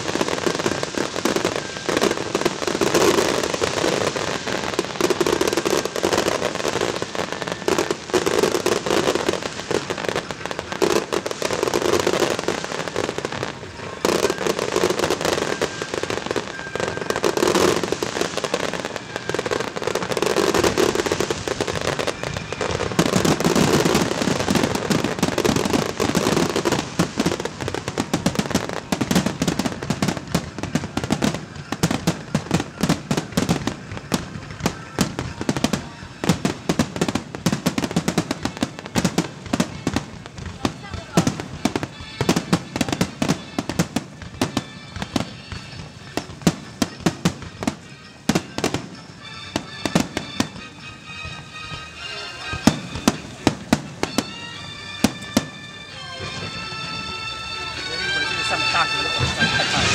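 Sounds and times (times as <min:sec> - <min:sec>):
fireworks bursting: 0:00.0 - 0:59.9
fireworks crackle: 0:00.0 - 0:59.9.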